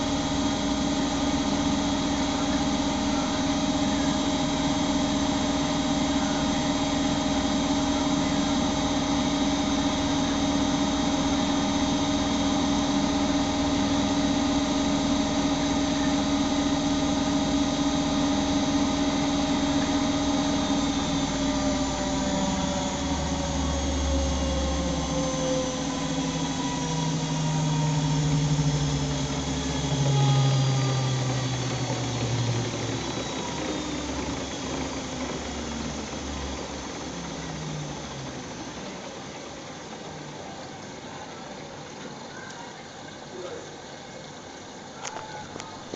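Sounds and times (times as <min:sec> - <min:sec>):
deep hums: 0:00.0 - 0:41.8
washing machine drum whining: 0:00.0 - 0:45.9.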